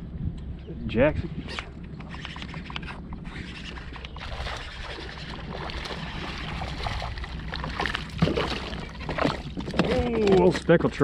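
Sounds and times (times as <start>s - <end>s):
wind rumble on microphone: 0.0s - 11.0s
water sloshing against a hull: 1.3s - 11.0s.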